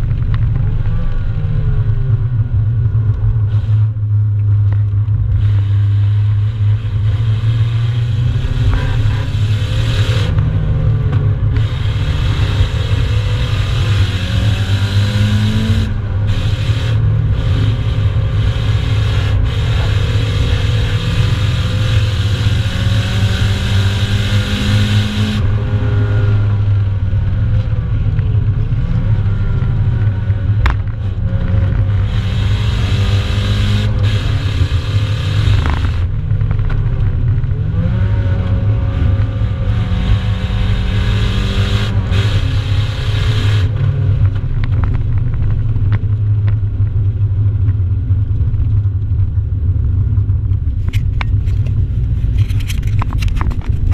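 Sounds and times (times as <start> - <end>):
car engine revving in cabin: 0.0 - 53.9.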